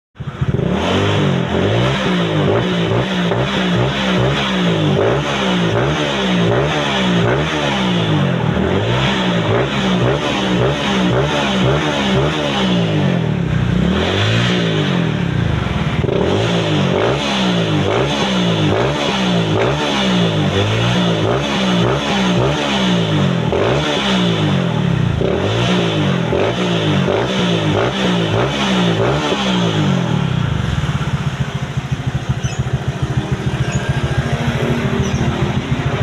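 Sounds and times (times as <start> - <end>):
scooter engine revving: 0.2 - 36.0.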